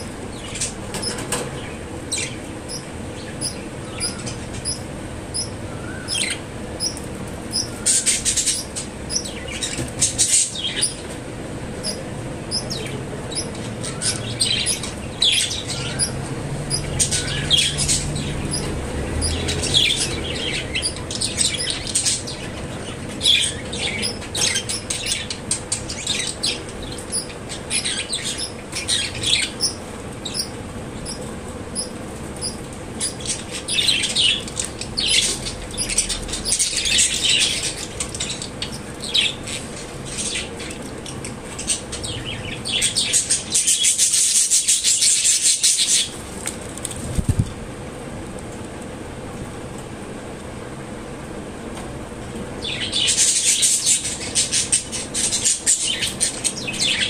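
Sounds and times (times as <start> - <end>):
budgerigars chirping: 0.0 - 11.2, 11.8 - 46.1, 52.6 - 57.0.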